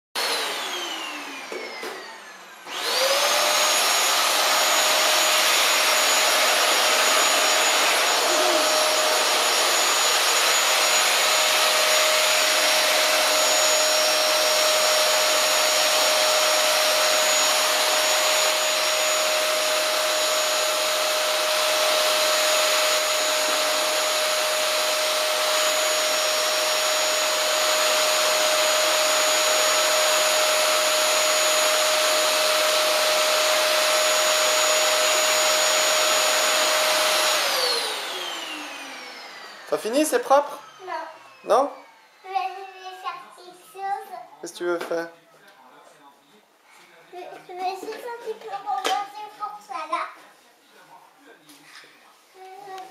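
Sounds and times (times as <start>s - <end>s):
vacuum cleaner motor whine: 0.2s - 43.0s.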